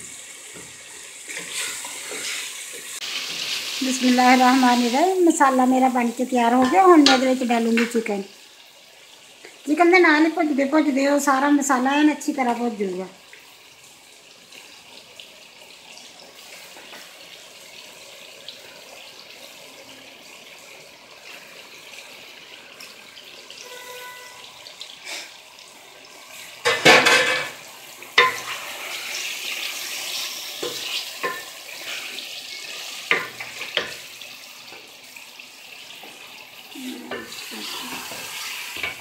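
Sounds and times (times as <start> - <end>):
chicken sizzling in a pot: 0.0 - 39.0.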